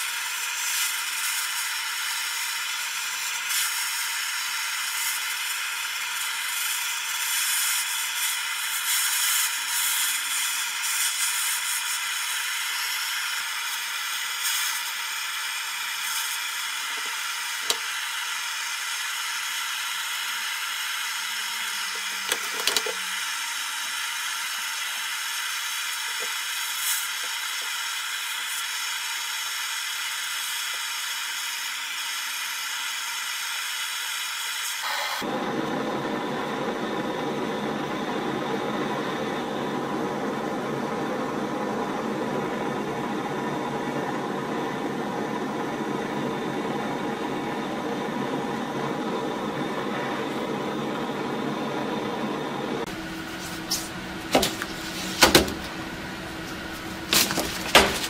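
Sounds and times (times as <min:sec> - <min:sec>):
gas torch hissing: 0:00.0 - 0:58.0.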